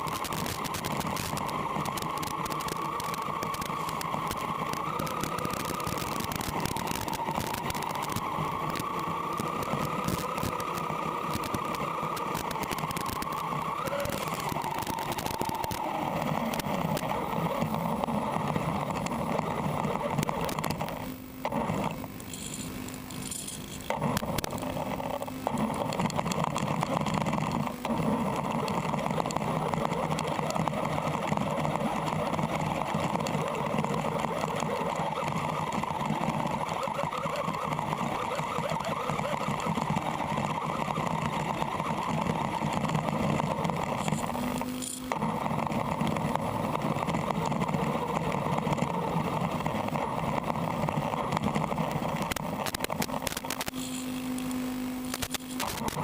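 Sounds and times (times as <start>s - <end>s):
rattle and crackle: 0.0s - 56.0s
toy car motor whine: 0.0s - 56.0s.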